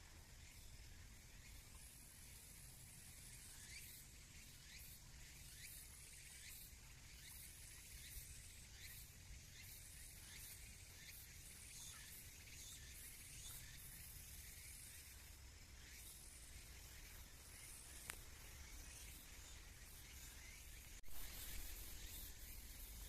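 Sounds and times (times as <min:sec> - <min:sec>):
steady high hiss: 0:00.0 - 0:23.0.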